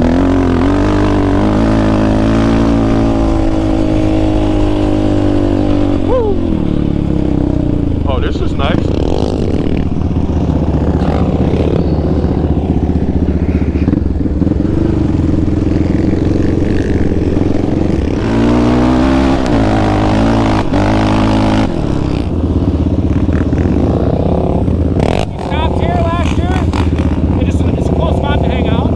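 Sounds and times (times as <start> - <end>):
quad bike engine under load: 0.0 - 28.7.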